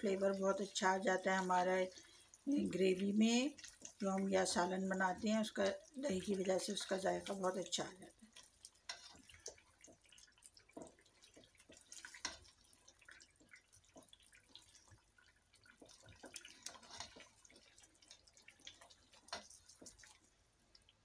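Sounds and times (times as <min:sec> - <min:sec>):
spatula stirring thick gravy: 0:00.0 - 0:21.0.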